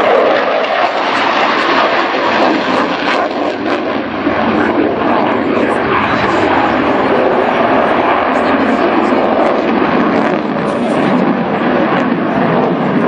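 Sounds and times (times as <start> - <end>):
fighter jet engine roar: 0.0 - 13.0.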